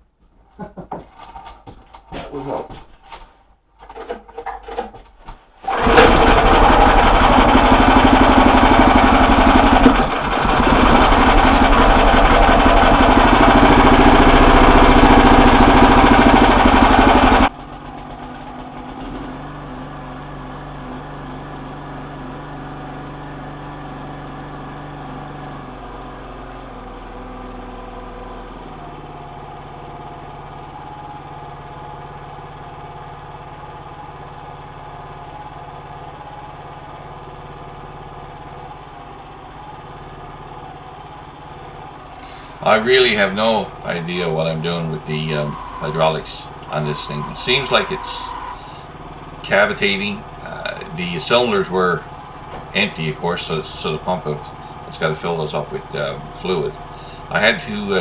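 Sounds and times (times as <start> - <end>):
small gasoline engine running: 5.6 - 58.0.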